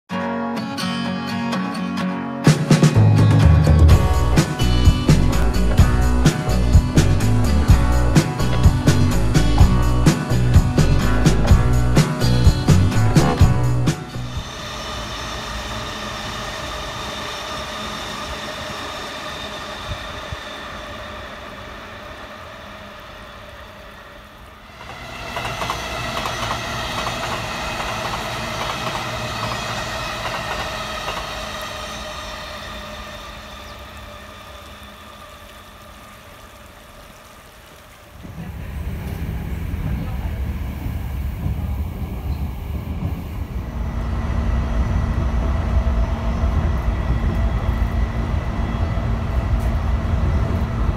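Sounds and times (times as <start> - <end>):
passing train rumble: 2.4 - 50.9
train rumble inside carriage: 3.0 - 50.9.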